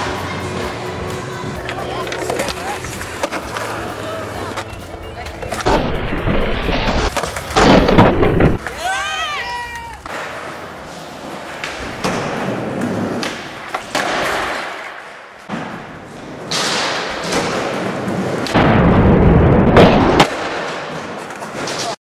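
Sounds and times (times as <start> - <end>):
skateboard wheels rolling: 0.0 - 22.0.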